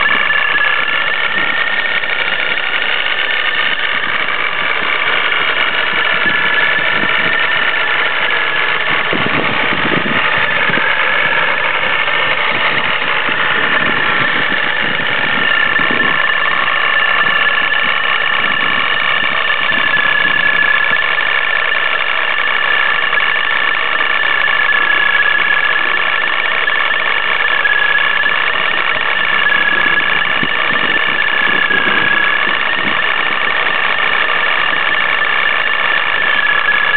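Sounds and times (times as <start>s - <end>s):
car engine idling: 0.0s - 36.9s
rattling noise: 0.0s - 36.9s
steady high tone: 0.0s - 36.9s.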